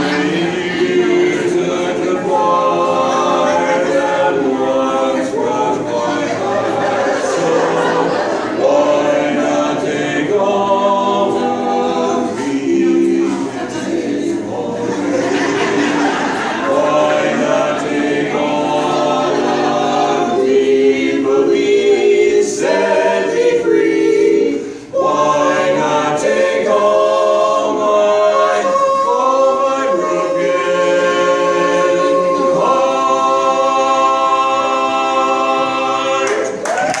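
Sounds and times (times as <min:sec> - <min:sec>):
male quartet singing a cappella: 0:00.0 - 0:36.6.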